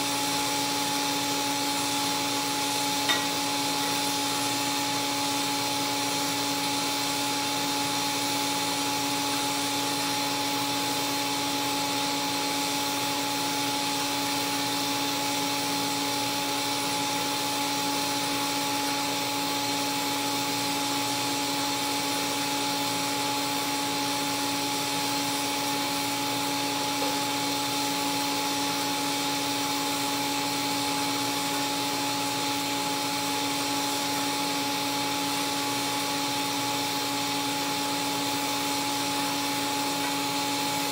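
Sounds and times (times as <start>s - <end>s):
welding arc hissing: 0.0s - 40.9s.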